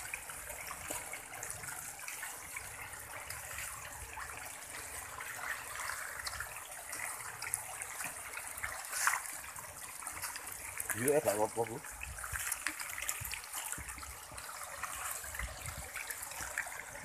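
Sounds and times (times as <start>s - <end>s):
water pouring from pipe: 0.0s - 17.0s.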